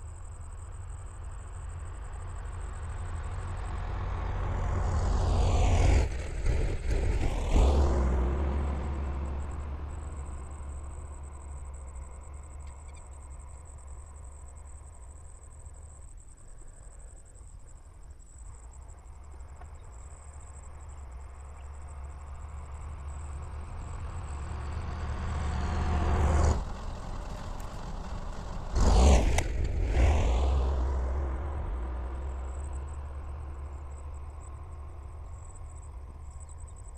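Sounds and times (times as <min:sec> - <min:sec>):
tractor engine running: 0:00.0 - 0:16.2, 0:18.4 - 0:36.9.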